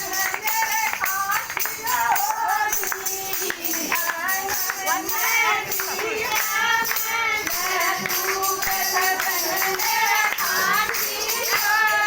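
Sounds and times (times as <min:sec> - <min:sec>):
jingling tambourine-like percussion: 0:00.0 - 0:12.0.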